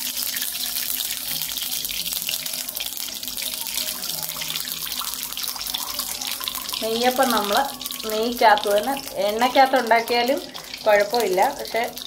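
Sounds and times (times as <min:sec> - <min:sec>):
ghee hissing and bubbling in pan: 0:00.0 - 0:12.0.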